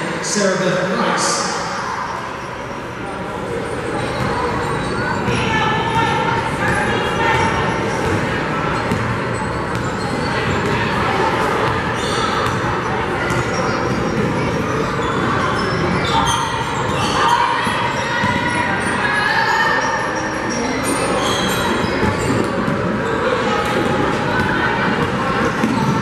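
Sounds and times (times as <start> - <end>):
gym din and voices: 0.0 - 26.0.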